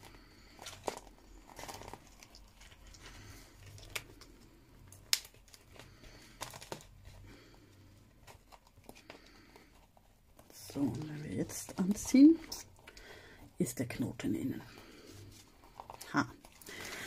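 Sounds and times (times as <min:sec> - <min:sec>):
paper rustling and crinkling: 0:00.0 - 0:12.9, 0:15.0 - 0:17.0.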